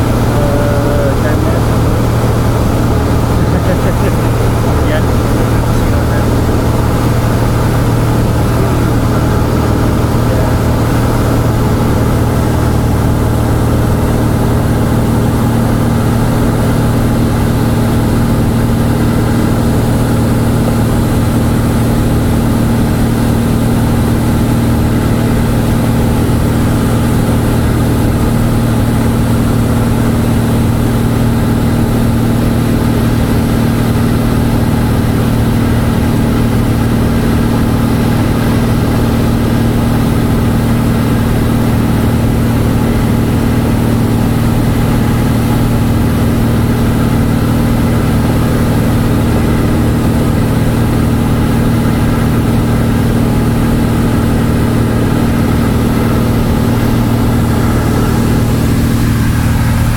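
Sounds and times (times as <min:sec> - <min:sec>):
airplane engine droning in cabin: 0:00.0 - 0:59.9.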